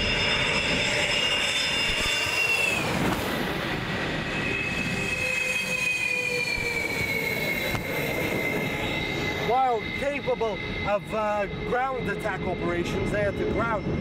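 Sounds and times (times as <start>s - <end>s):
jet engines whining down: 0.0s - 14.0s.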